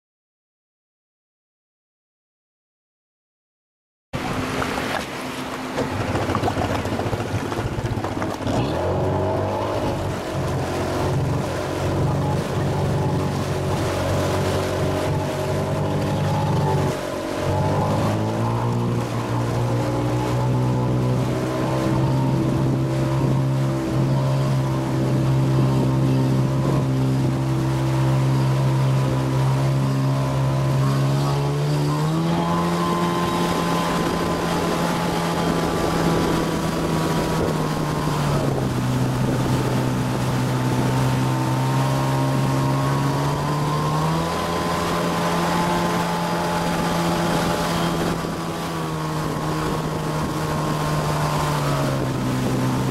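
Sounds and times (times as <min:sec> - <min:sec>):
churning wake rushing: 0:04.2 - 0:52.9
motorboat engine running: 0:04.2 - 0:52.9
wind on microphone: 0:04.3 - 0:52.9.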